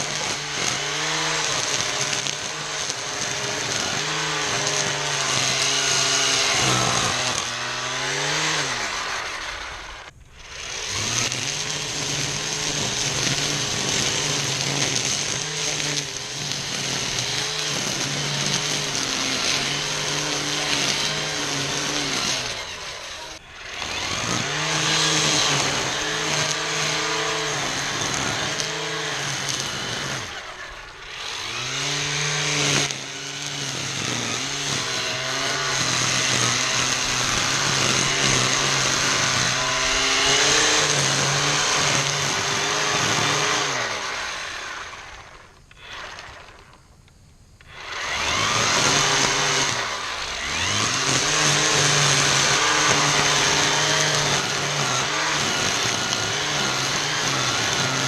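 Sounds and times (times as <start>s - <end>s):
string trimmer cutting weeds: 0.0s - 58.0s.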